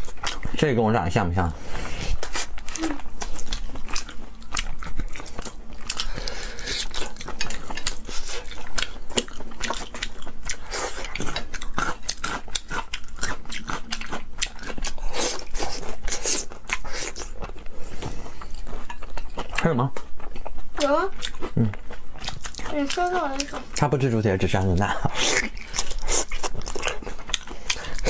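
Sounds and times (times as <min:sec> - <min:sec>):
chewing and biting: 0:00.0 - 0:00.7, 0:02.0 - 0:24.1, 0:24.8 - 0:28.0.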